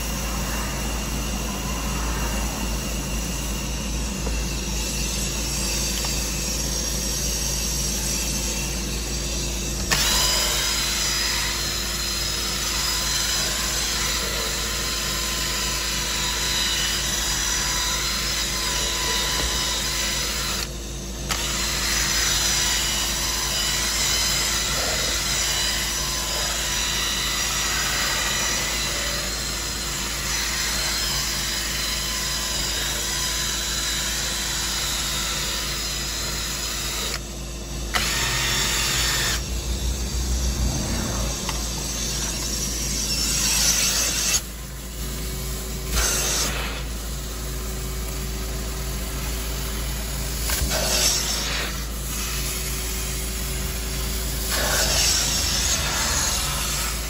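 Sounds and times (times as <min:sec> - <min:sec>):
drill brush scrubbing upholstery: 0:00.0 - 0:57.0
steady motor hum: 0:00.0 - 0:57.0.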